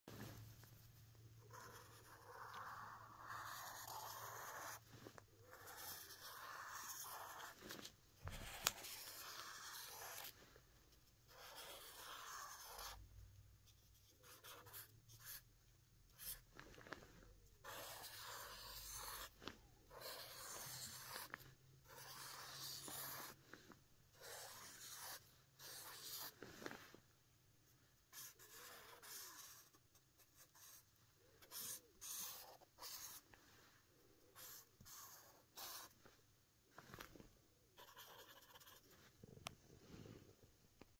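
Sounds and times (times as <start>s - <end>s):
marker scratching on paper: 1.4s - 15.5s, 16.1s - 26.8s, 28.1s - 33.3s, 34.2s - 36.2s, 37.8s - 39.1s.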